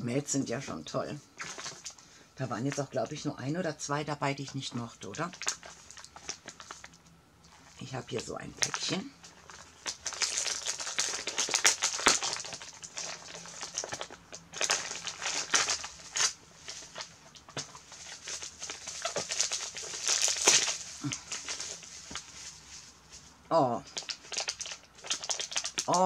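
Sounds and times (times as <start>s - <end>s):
wrapping paper crinkling: 1.4s - 2.0s, 4.5s - 26.0s.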